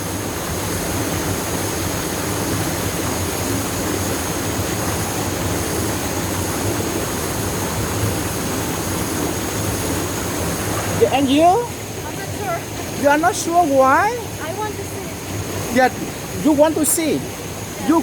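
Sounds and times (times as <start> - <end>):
waterfall pouring into pool: 0.0 - 18.0.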